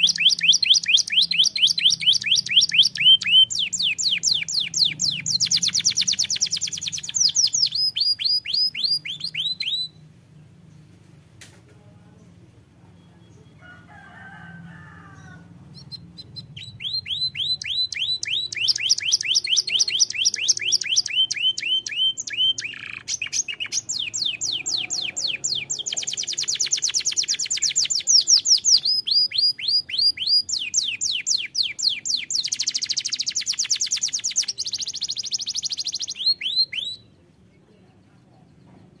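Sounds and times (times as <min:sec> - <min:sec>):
canary singing trills: 0:00.0 - 0:11.0, 0:12.2 - 0:39.0.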